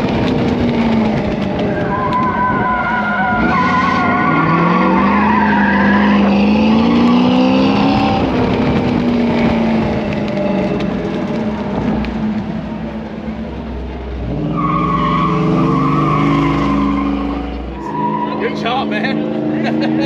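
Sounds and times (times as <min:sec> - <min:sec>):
tires squealing: 0:00.0 - 0:20.0
truck engine at full throttle: 0:00.0 - 0:20.0.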